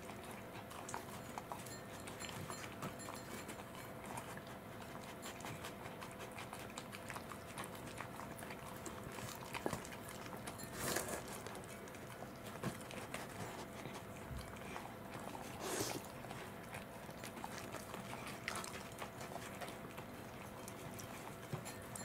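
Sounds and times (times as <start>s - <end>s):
dog licking and eating: 0.0s - 22.0s.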